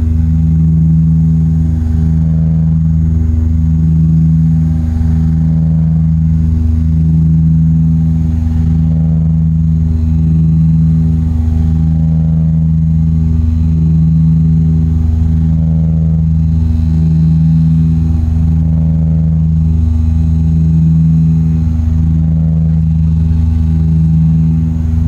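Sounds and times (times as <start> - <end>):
propeller aircraft engine droning: 0.0 - 25.0.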